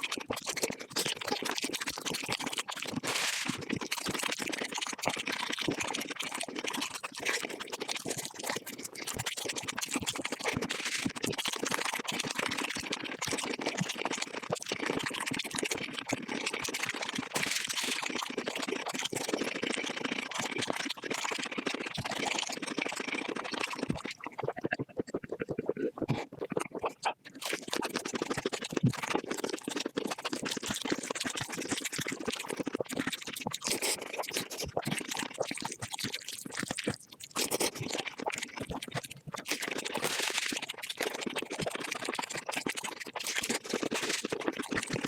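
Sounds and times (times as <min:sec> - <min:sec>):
sped-up chewing and crunching: 0:00.0 - 0:45.0.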